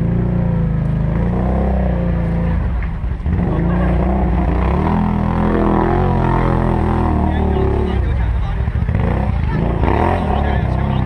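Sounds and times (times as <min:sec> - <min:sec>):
atv engine under throttle: 0:00.0 - 0:11.0.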